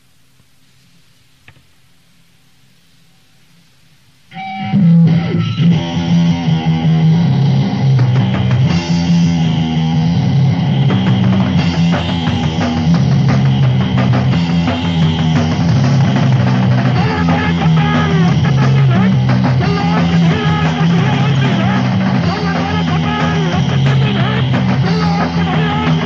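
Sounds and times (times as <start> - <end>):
faint tape hiss: 0.0 - 26.0
distorted guitar and bass riff: 4.3 - 26.0.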